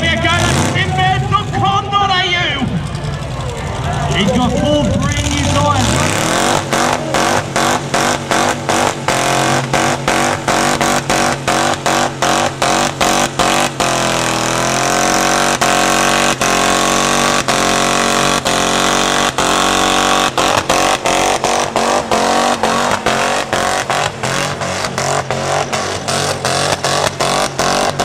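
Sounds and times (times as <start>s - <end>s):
truck engine revving with cut-outs: 0.0s - 28.0s.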